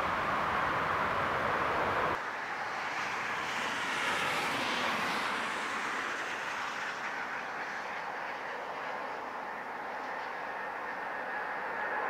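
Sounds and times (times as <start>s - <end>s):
jet engines at takeoff: 0.0s - 12.0s.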